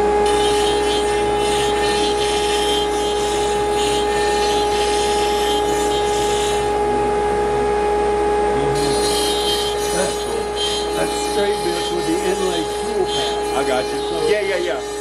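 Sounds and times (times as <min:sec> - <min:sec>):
router bit cutting wood: 0:00.0 - 0:07.0, 0:08.6 - 0:15.0
router spindle high whine: 0:00.0 - 0:15.0.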